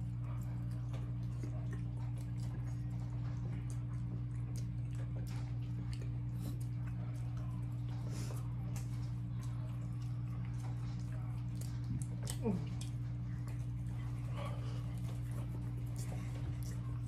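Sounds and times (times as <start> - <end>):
low electrical hum: 0.0 - 17.0
wet chewing and lip smacks: 0.0 - 17.0.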